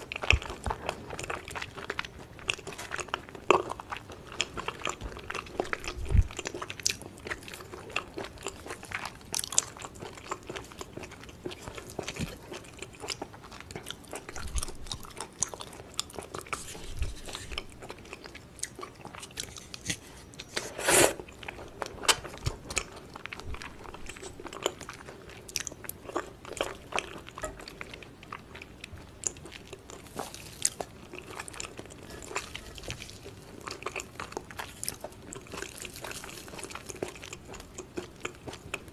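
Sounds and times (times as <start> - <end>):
wet chewing and smacking: 0.0 - 20.6, 21.2 - 38.9.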